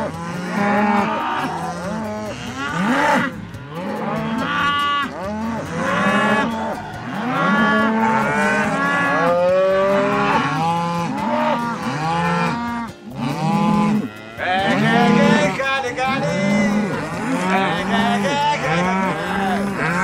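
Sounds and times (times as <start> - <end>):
cows mooing: 0.0 - 20.0.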